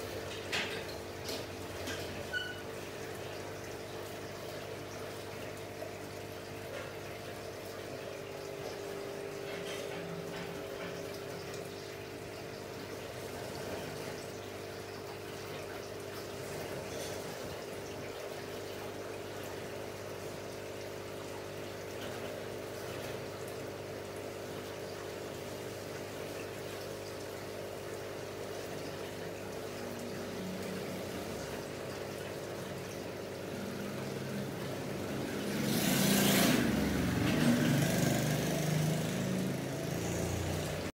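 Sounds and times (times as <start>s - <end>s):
faint water trickle: 0.0s - 40.9s
filter pump humming: 0.0s - 40.9s.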